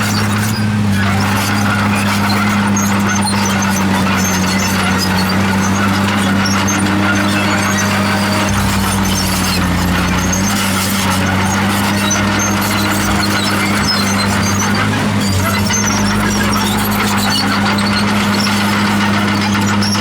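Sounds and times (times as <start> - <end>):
bulldozer diesel engine running: 0.0 - 20.0
steel tracks clattering and squealing: 0.0 - 20.0.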